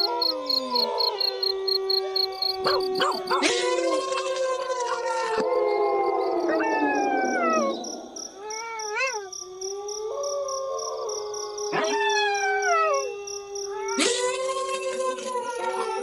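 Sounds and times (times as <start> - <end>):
wolves howling in chorus: 0.0 - 8.4, 9.0 - 16.0.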